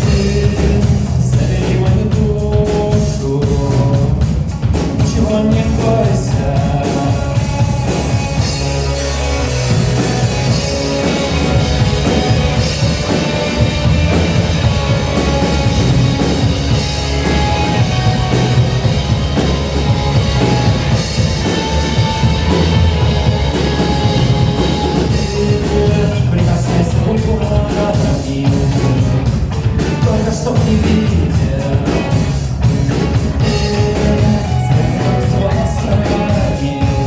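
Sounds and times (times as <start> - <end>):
rock band playing instrumental: 0.0 - 37.0.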